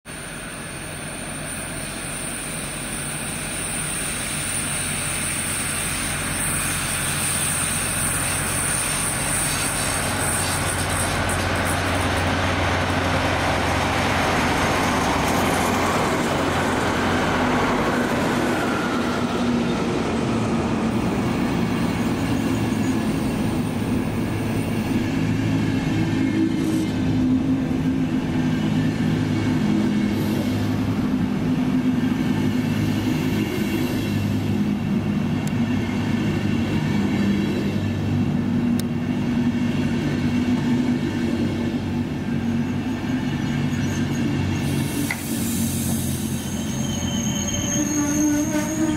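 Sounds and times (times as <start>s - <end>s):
diesel locomotives passing: 0.1s - 48.9s.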